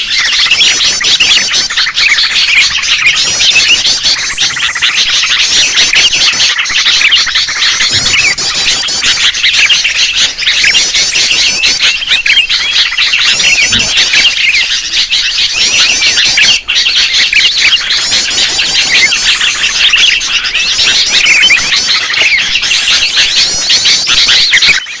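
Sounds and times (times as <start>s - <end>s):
birds chattering chorus: 0.0s - 25.0s.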